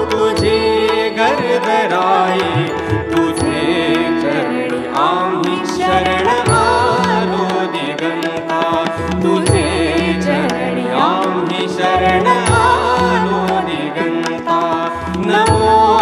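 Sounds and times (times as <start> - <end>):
harmonium: 0.0 - 16.0
man and woman singing: 0.0 - 16.0.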